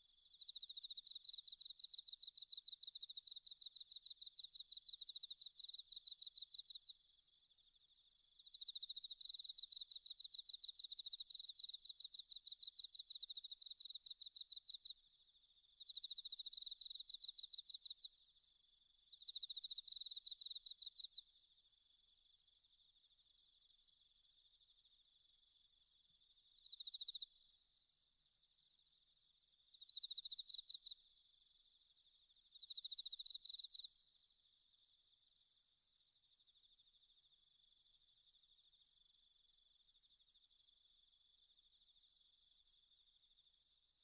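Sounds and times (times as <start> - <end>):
insects chirping trills: 0.0 - 44.0.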